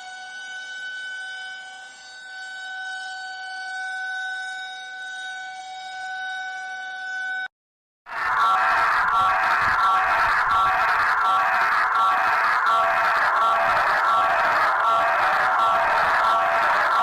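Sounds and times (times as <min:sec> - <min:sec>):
high buzzy siren tone: 0:00.0 - 0:07.5, 0:08.1 - 0:17.0.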